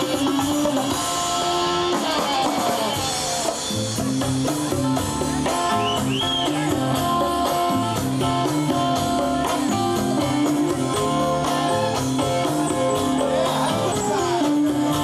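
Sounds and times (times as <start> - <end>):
bass guitar: 0.0 - 15.0
electric guitar: 0.0 - 15.0
steady drum beat: 0.0 - 15.0.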